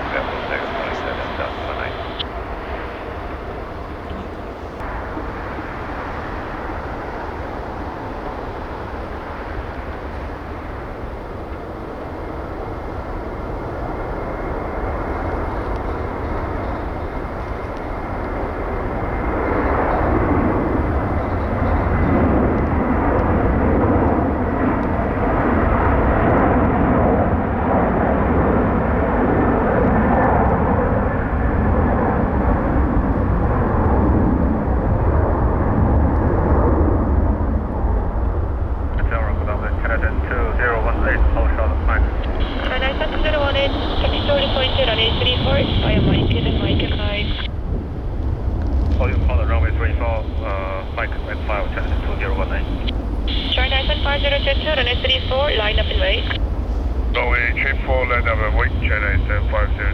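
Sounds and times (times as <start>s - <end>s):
wind on microphone: 0.0s - 39.0s, 42.0s - 59.9s
jet engines at takeoff power: 0.0s - 59.9s.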